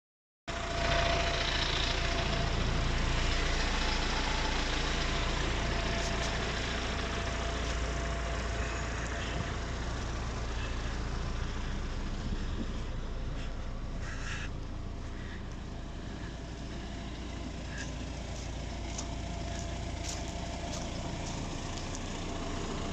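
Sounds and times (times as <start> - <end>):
tractor engine running: 0.5 - 22.9.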